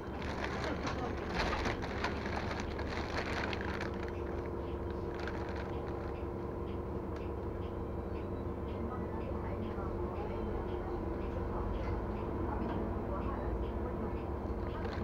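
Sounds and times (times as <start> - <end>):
bus engine rumble and drone: 0.0 - 15.0.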